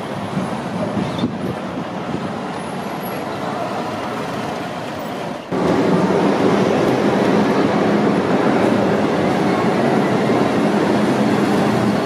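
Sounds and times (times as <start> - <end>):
tram wheels on rails: 0.0 - 12.0.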